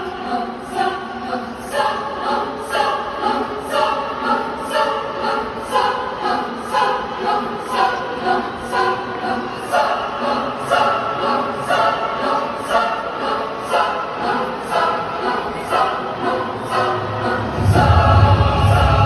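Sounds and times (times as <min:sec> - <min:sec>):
choral singing: 0:00.0 - 0:19.0.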